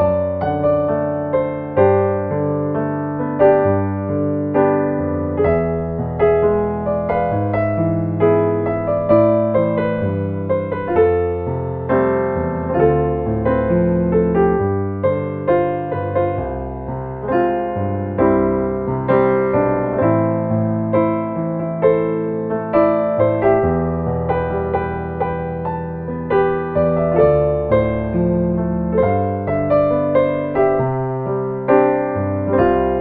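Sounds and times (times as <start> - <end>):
solo piano ballad: 0.0 - 33.0.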